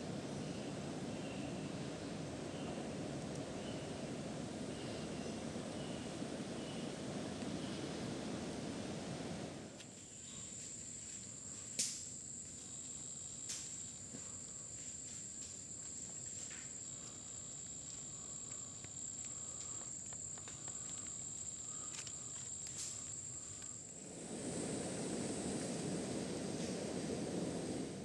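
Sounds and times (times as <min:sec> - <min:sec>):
insects high-pitched drone: 0:00.0 - 0:08.0, 0:09.8 - 0:28.0.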